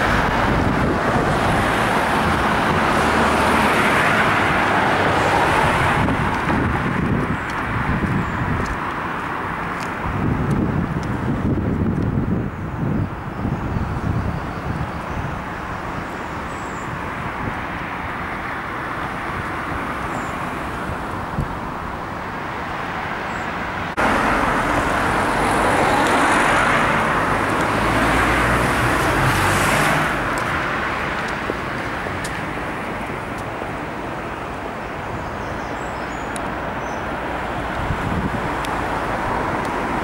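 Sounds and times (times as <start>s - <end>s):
road traffic noise: 0.0s - 40.0s
vehicles passing rumble: 0.0s - 40.0s.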